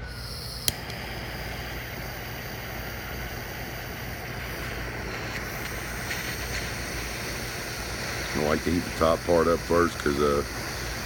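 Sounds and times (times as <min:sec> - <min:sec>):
gas torch hissing: 0:00.0 - 0:11.0
gas torch igniter click: 0:00.0 - 0:11.0.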